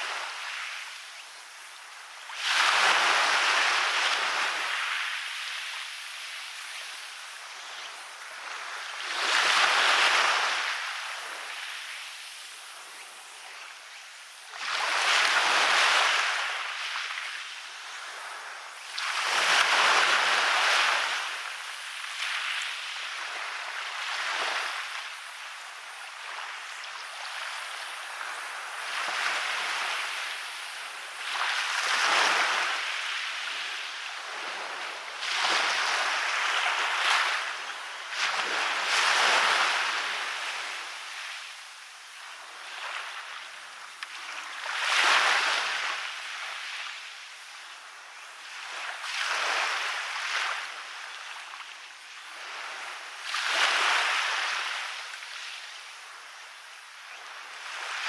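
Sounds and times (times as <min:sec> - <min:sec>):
small waves washing up beach: 0:00.0 - 0:58.0.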